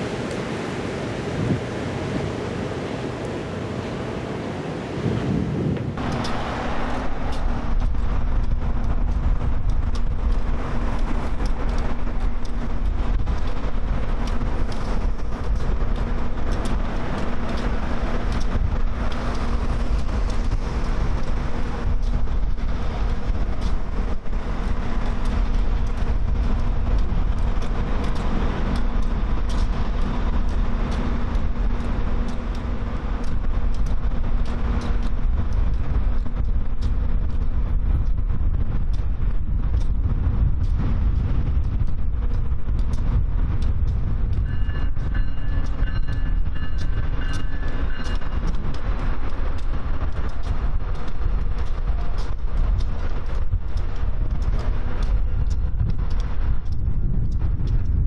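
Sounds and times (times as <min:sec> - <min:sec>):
engine hum: 0:00.0 - 0:58.0
wind rumble on microphone: 0:00.0 - 0:58.0.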